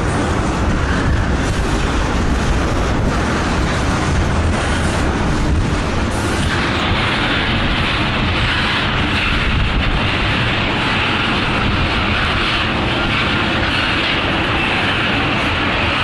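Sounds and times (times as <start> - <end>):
steel wheels running on rails: 0.0 - 16.0.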